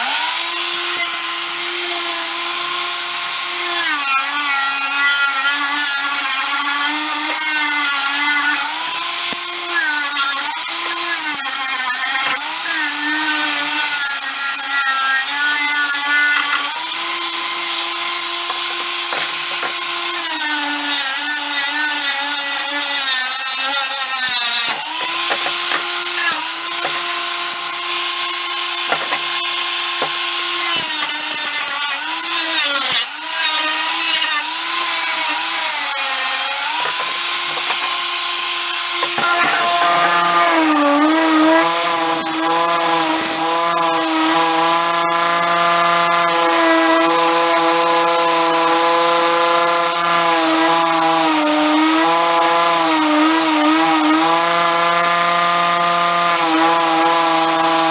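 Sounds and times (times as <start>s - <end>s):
electric power tool whine: 0.0s - 57.9s.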